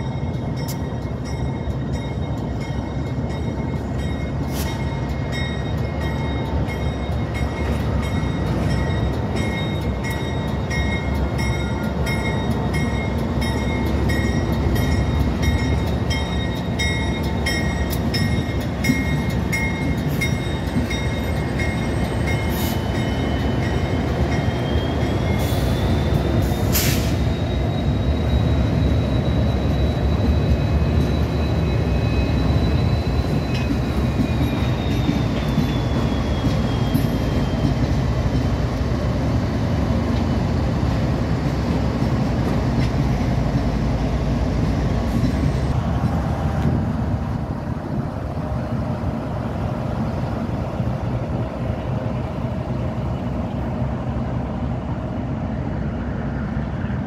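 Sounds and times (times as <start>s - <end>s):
locomotive engine and wheel rumble: 0.0s - 57.0s
wheels squealing on rails: 0.0s - 57.0s.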